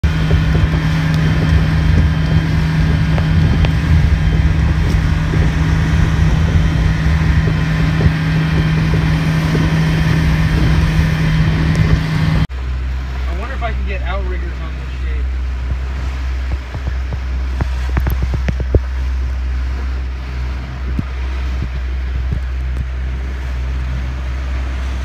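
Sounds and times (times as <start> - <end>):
boat engine droning: 0.0 - 25.0
wind buffeting microphone: 0.0 - 25.0.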